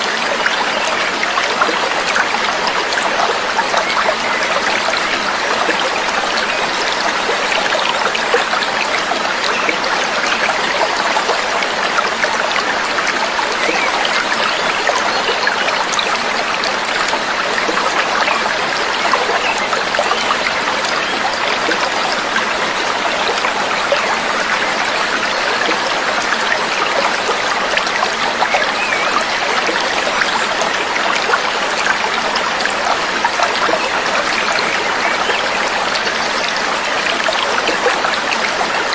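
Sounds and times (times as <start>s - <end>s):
trickling babbling water: 0.0s - 38.9s.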